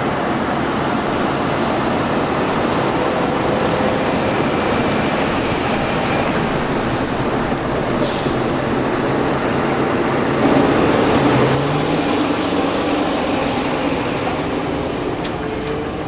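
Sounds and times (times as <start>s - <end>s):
harvest machinery engine drone: 0.0s - 16.0s.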